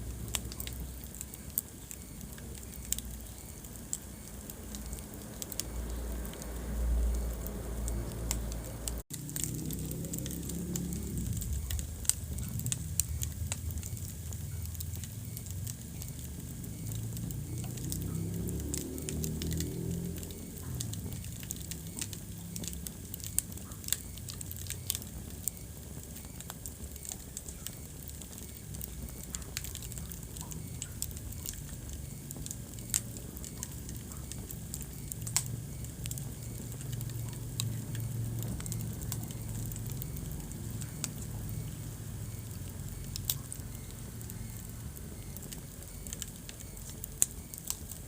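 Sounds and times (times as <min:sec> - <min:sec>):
sharp pops of fire: 0:00.0 - 0:06.5, 0:07.9 - 0:48.0
low rumble of burning: 0:00.0 - 0:48.0
wood fire crackling: 0:00.0 - 0:48.0.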